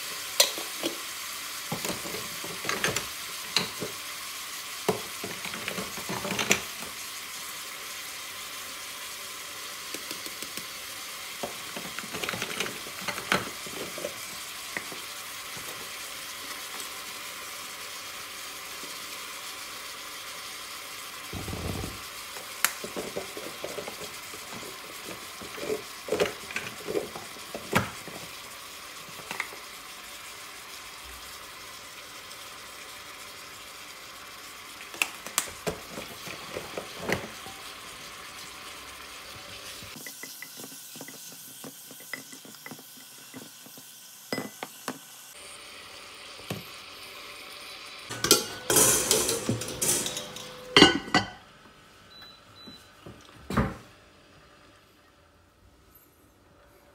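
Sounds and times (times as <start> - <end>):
chicken sizzling in a pan: 0.0 - 52.9.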